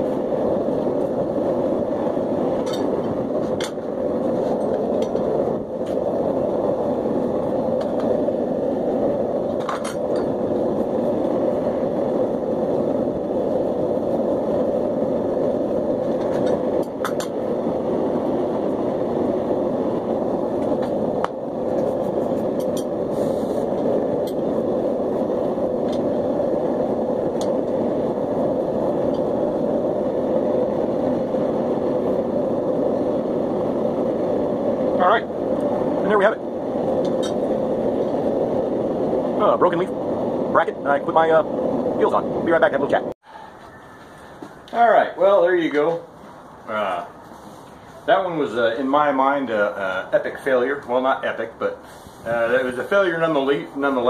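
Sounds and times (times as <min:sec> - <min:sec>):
forge burner roaring: 0:00.0 - 0:54.0.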